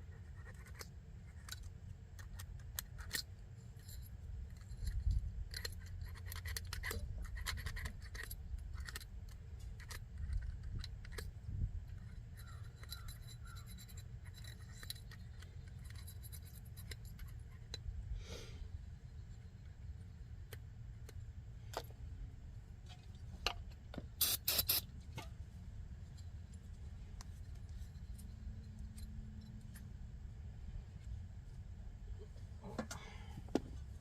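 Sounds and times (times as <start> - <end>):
clicks and scrapes of small parts: 0.0 - 18.0, 18.8 - 22.2, 22.8 - 34.0
low steady hum: 0.0 - 34.0.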